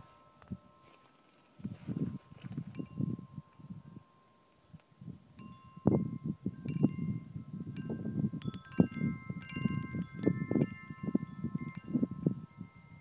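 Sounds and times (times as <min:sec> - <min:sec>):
metal wind chimes ringing: 0:00.0 - 0:13.0
gusty wind rumble: 0:01.6 - 0:04.1, 0:05.0 - 0:13.0.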